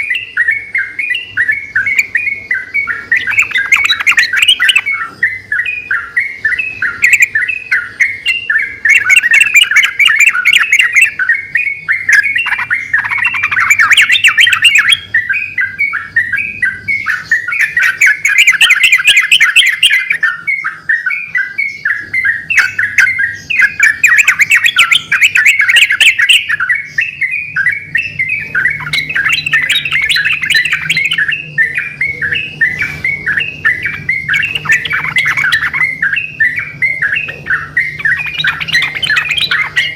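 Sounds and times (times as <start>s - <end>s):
bulbuls singing chirpy notes: 0.0s - 39.9s.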